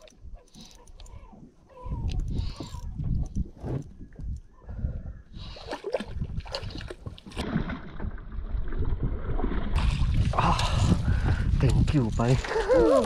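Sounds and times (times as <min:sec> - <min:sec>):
wind buffeting microphone: 0:01.2 - 0:07.1, 0:08.4 - 0:13.0.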